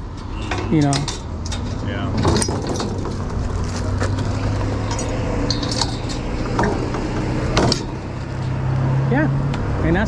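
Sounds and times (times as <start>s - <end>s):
metal mesh gate clinking: 0.0s - 8.6s.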